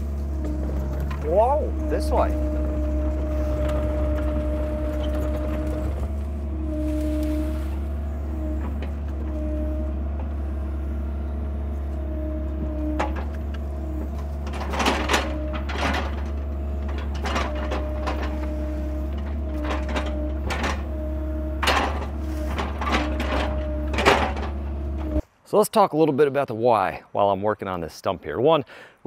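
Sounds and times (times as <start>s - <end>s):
diesel engine running: 0.0s - 25.2s
hydraulic whine: 0.0s - 25.2s
knocks and clunks of logs: 0.0s - 25.2s.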